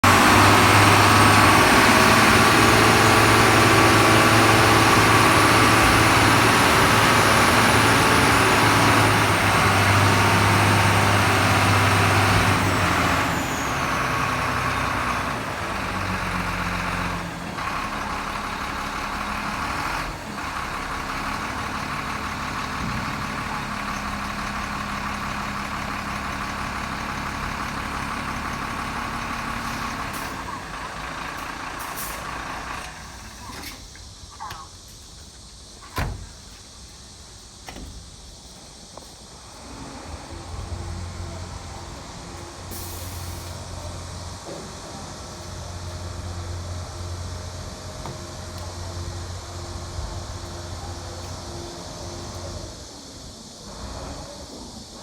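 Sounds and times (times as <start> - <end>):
diesel truck engine running: 0.0 - 36.4, 37.5 - 55.0.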